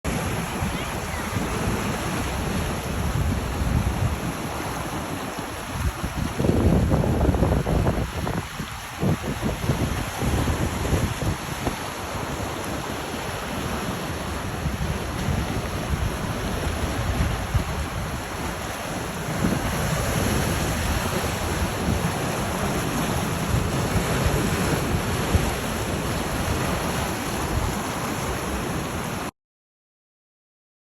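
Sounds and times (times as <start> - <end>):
wind buffeting microphone: 0.1 - 29.0
surf: 0.1 - 29.3
wind: 0.1 - 29.3.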